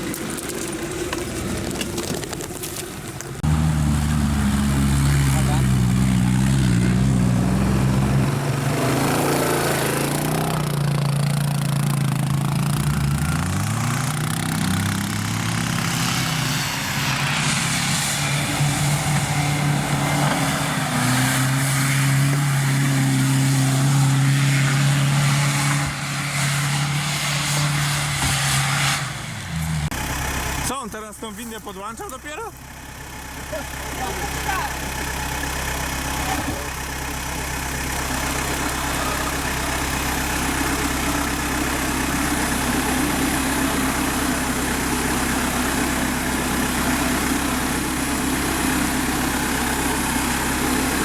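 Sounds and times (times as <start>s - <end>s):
off-road vehicle engine revving: 0.0s - 51.0s.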